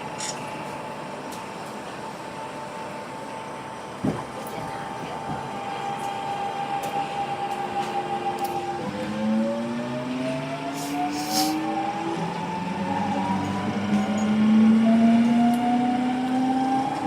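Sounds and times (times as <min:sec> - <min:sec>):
train inverter whine: 0:00.0 - 0:17.0.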